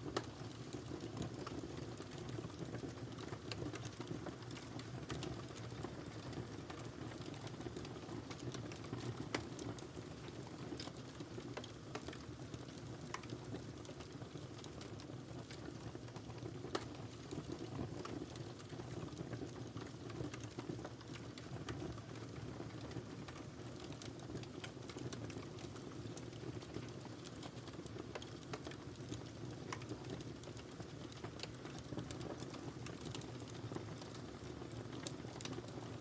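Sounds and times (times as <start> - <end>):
fire crackling and popping: 0.0 - 36.0
wood fire rumbling: 0.1 - 36.0.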